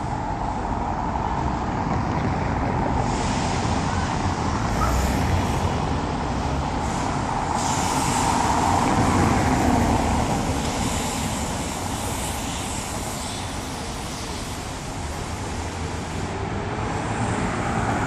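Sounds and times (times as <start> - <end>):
cars driving on cobblestones: 0.0 - 18.0.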